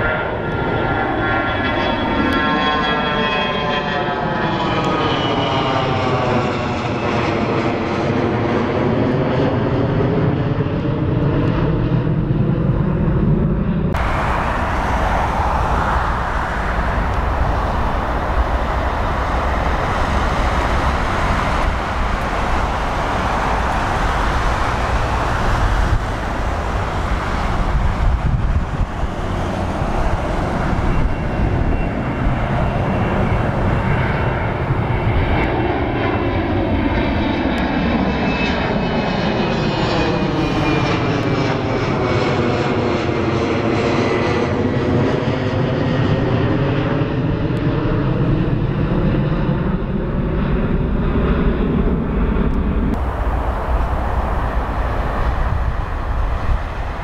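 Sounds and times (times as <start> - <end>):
jet engine rumbling: 0.0 - 57.0
jet engines climbing overhead: 0.0 - 57.0.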